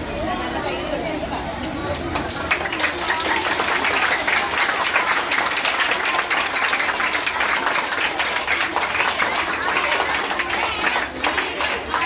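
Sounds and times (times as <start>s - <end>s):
children's voices: 0.0s - 12.0s
children clapping: 1.9s - 12.0s.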